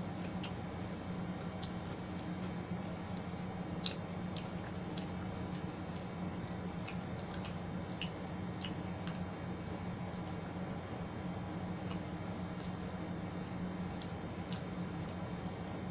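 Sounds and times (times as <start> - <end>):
person chewing food: 0.0 - 15.9
steady low hum: 0.0 - 15.9.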